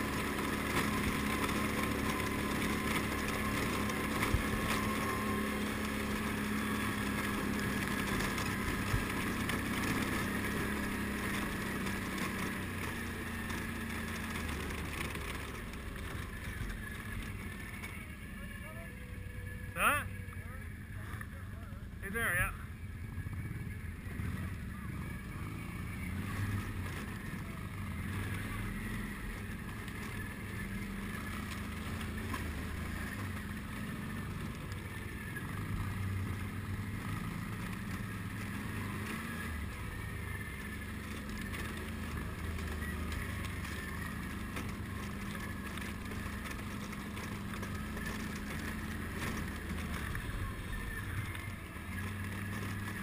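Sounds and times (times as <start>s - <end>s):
atv engine running: 0.0s - 53.0s.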